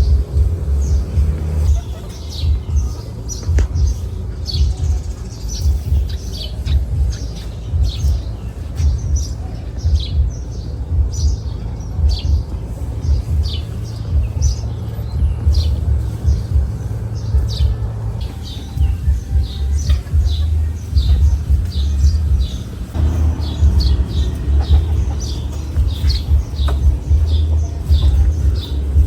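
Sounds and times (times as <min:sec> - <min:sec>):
low rumble: 0:00.0 - 0:05.0, 0:05.6 - 0:29.0
bird chirping: 0:00.0 - 0:29.0.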